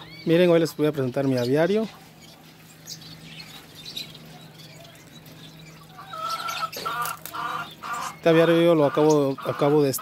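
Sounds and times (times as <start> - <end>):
finches chirping faintly: 0.0 - 10.0
low bird calls: 0.0 - 10.0.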